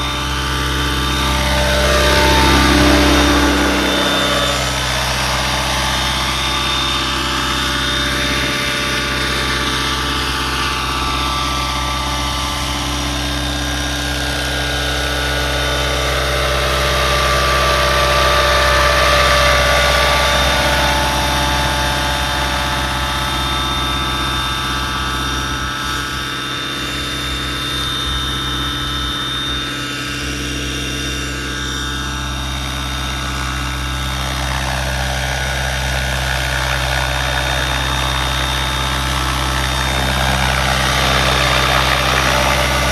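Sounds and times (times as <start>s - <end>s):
rc helicopter rotor whine: 0.0s - 42.9s.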